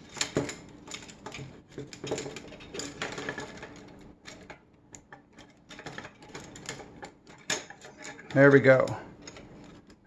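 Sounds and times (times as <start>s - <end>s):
plastic parts clicking and rattling: 0.0s - 10.0s.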